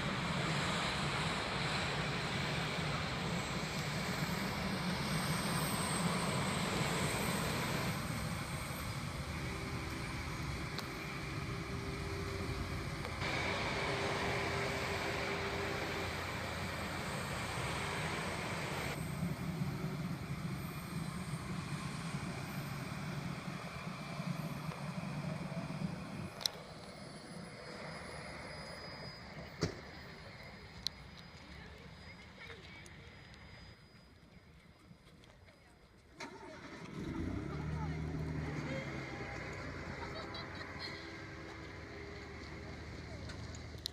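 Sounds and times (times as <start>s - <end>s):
passenger train rumbling past: 0.0s - 34.0s, 36.2s - 43.9s.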